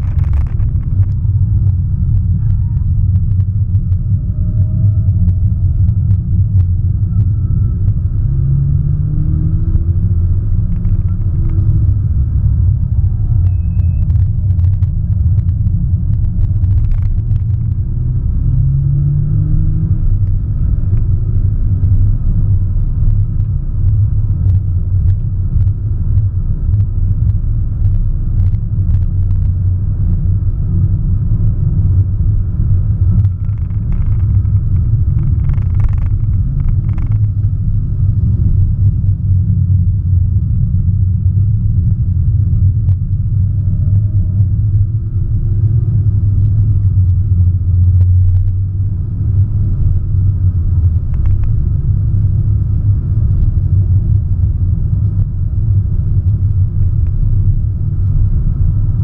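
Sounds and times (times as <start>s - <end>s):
car cabin engine and road drone: 0.0s - 59.0s.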